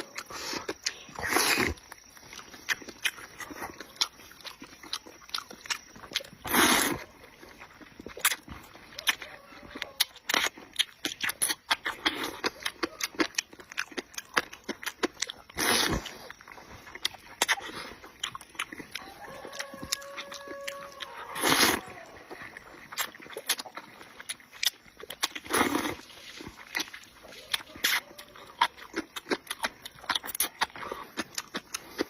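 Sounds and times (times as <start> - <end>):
slurping: 0.0 - 32.0
wet chewing and lip-smacking: 0.0 - 32.0.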